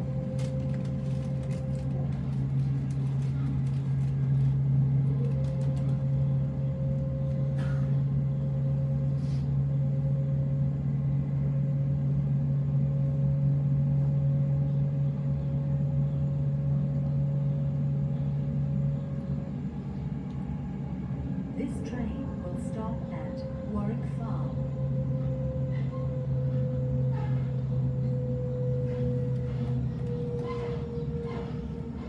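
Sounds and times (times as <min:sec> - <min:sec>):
electric train low hum: 0:00.0 - 0:32.0
thin steady whine: 0:00.0 - 0:32.0.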